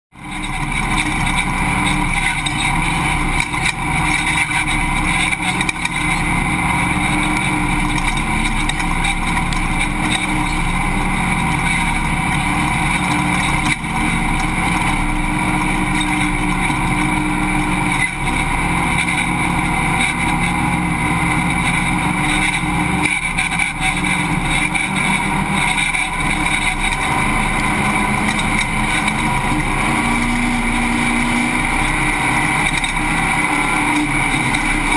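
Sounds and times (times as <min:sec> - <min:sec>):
truck engine running hard: 0:00.1 - 0:34.9.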